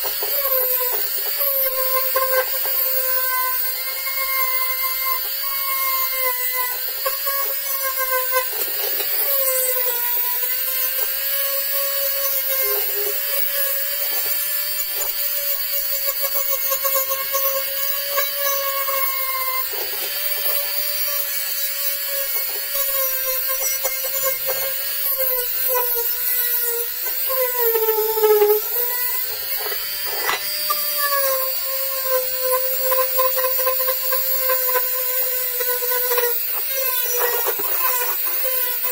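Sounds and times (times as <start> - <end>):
rotary tool whining against metal: 0.0 - 38.9.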